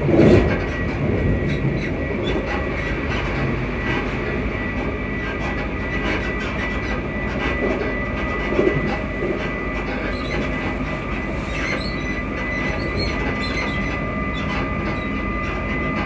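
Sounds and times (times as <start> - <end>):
train traction motors whining: 0.0 - 16.0
wheels rumbling on rail: 0.0 - 16.0.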